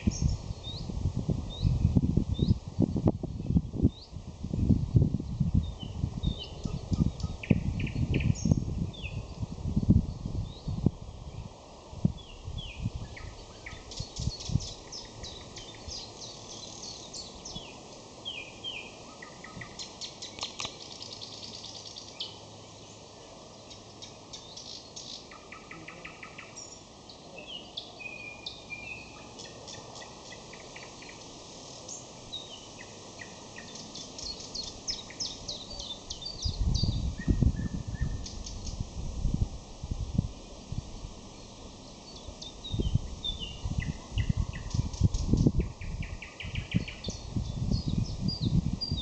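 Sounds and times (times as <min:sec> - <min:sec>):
nightingale singing: 0:00.0 - 0:02.6, 0:05.3 - 0:11.6, 0:12.2 - 0:23.0, 0:23.6 - 0:38.8, 0:41.2 - 0:49.0.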